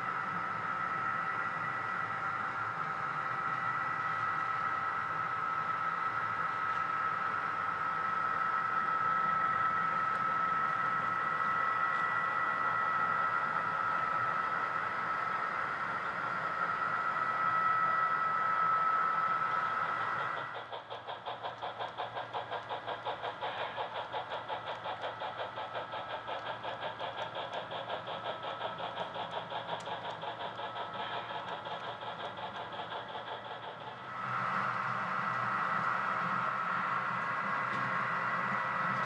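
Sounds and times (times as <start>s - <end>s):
model steam locomotive chuffing: 0.0s - 39.0s
model train whine: 0.0s - 39.0s.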